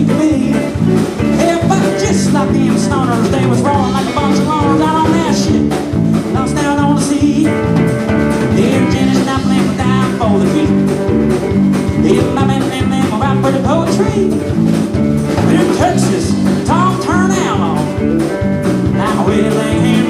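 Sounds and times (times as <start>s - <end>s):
bass guitar: 0.0s - 20.0s
electric guitar lead: 0.0s - 20.0s
steady drum beat: 0.0s - 20.0s.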